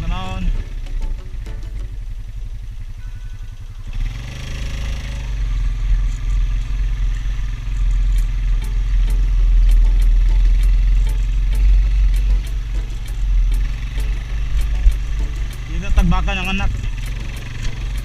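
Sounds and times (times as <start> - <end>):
motorbike engine running: 0.0 - 18.0.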